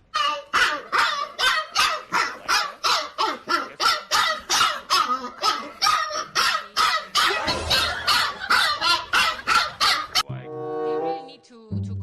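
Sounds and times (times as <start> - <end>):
dog barking rapidly: 0.2 - 10.3.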